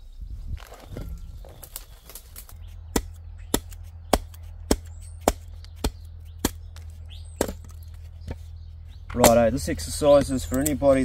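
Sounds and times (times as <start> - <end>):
axe chopping firewood: 2.1 - 11.0.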